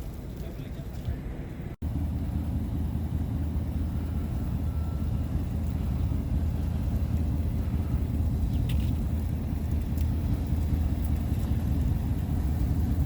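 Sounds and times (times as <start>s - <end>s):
motorcycle engine running: 1.9s - 13.0s.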